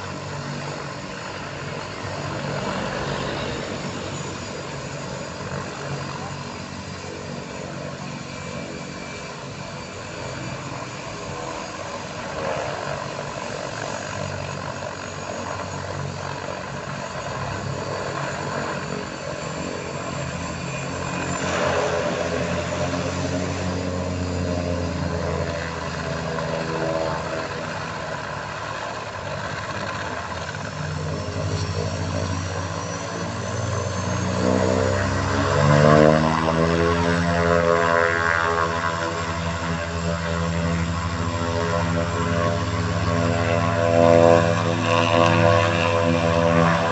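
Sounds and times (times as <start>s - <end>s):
turboprop engine drone and whine: 0.0s - 46.9s.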